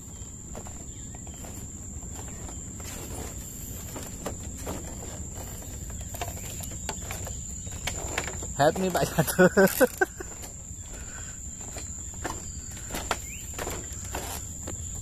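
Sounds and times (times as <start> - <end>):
cricket trill: 0.0 - 15.0.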